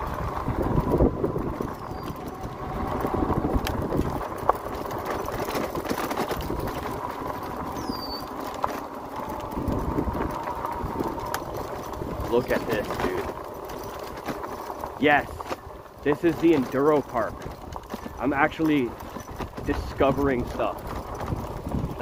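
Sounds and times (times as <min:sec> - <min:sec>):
bike tyres crunching on gravel: 0:00.0 - 0:22.0.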